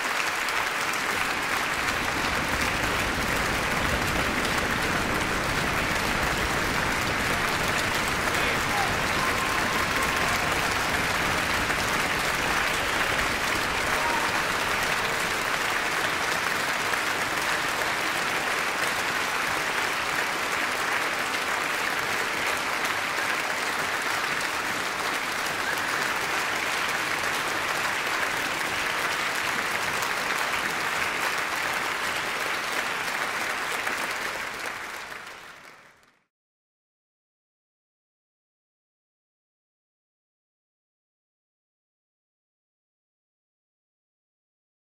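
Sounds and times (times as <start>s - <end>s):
audience applauding: 0.0s - 36.3s.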